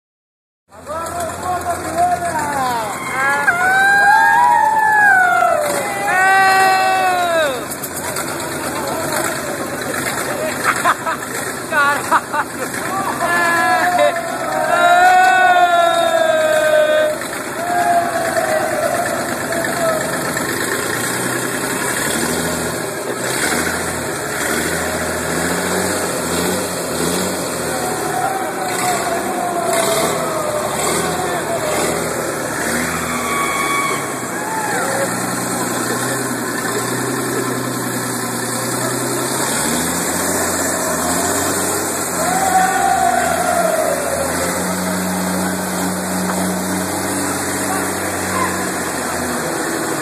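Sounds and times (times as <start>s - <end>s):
engine idling: 0.7s - 50.0s.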